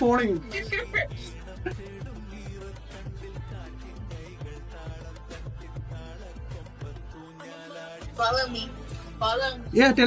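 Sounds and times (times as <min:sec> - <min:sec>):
background music with bass beat: 0:00.0 - 0:10.0.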